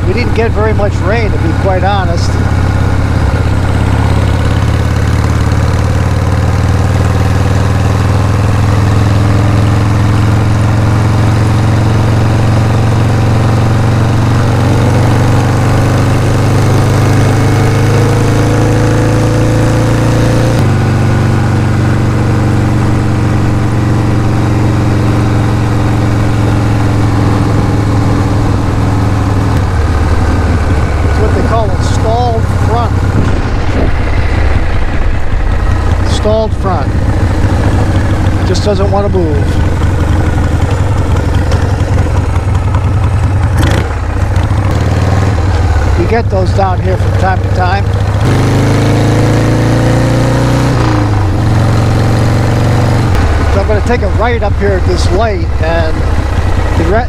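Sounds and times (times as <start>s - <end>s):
motorcycle engine throbbing: 0.0s - 57.0s
rushing wind: 0.0s - 57.0s.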